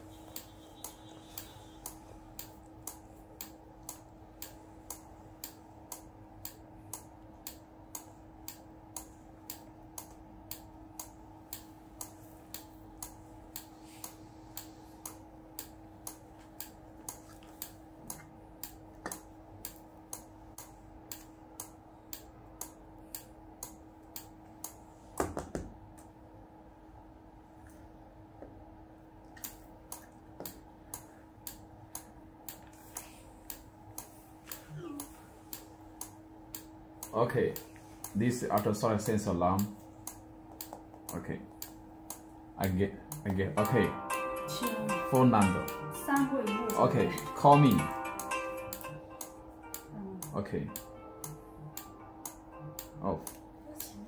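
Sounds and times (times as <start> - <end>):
sharp ticking clicks: 0.0 - 24.8, 29.4 - 34.1, 35.5 - 54.0
faint steady hum: 0.0 - 54.0.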